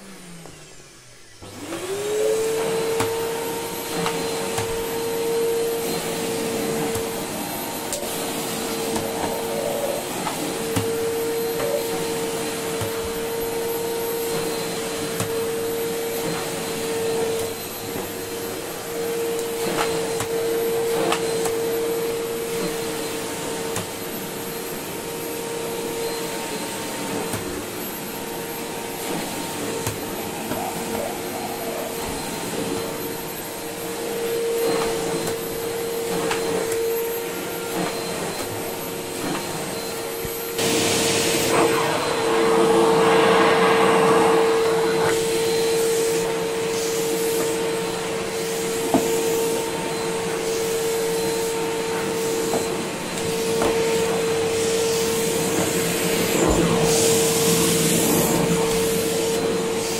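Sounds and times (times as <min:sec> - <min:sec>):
vacuum cleaner motor whine: 0:00.0 - 0:59.9.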